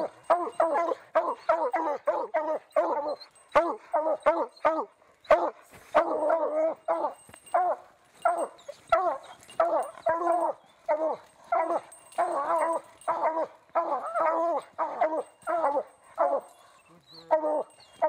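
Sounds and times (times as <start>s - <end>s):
hound baying: 0.0s - 18.0s.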